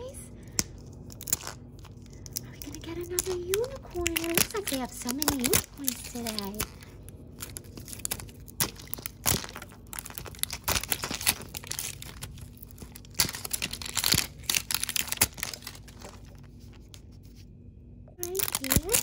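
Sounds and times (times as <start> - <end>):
plastic film tearing and crinkling: 0.8 - 17.1, 18.2 - 19.0.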